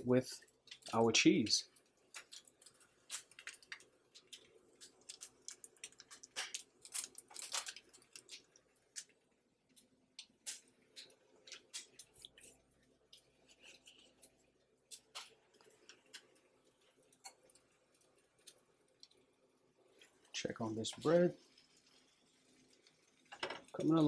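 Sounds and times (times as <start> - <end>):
meat crackling on griddle: 0.0 - 24.0.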